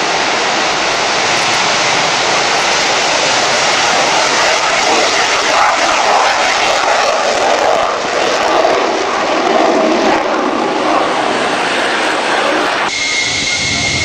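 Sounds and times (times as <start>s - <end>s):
jet roar on takeoff: 0.0s - 14.0s.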